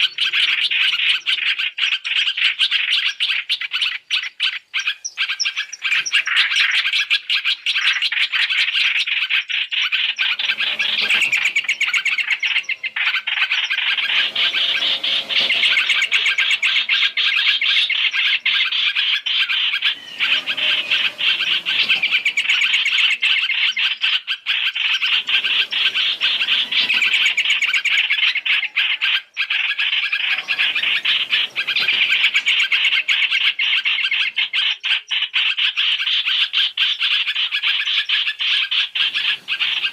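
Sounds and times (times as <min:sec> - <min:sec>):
birds chattering and chirping: 0:00.0 - 0:39.9.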